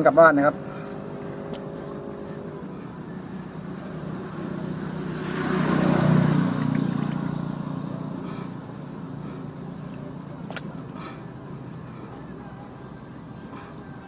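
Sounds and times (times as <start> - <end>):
motor vehicle passing by: 0.0 - 14.0.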